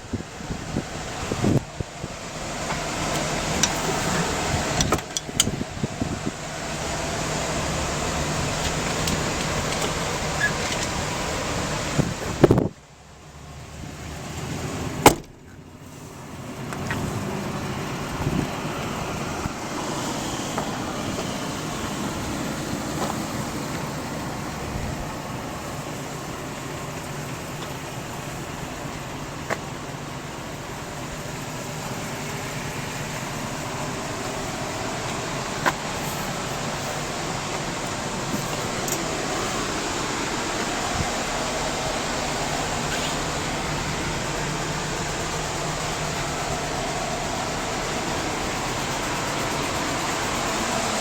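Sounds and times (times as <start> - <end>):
vehicle running: 0.0 - 51.0.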